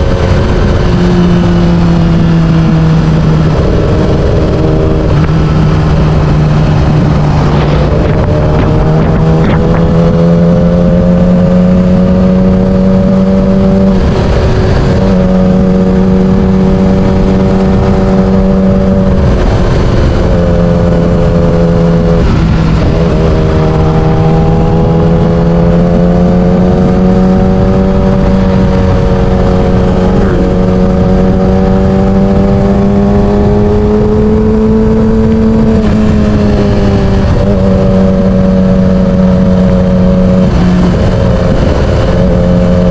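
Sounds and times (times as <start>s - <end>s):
motorcycle engine running: 0.0s - 42.9s
wind noise on microphone: 0.0s - 42.9s.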